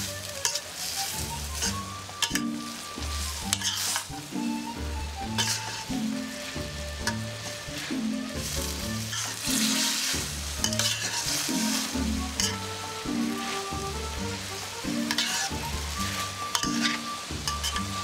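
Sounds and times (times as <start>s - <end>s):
food sizzling in hot oil: 0.0s - 18.0s
metal spatula scraping a wok: 0.0s - 18.0s.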